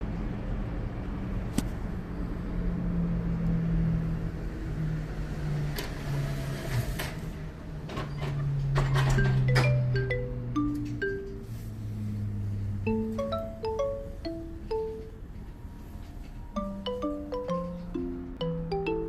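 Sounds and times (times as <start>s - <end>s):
vehicle engine hum: 0.0s - 19.0s.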